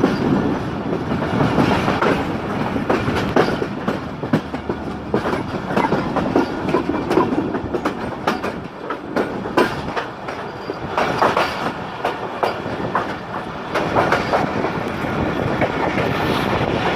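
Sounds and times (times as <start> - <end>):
train wheels clattering over joints: 0.0 - 16.9.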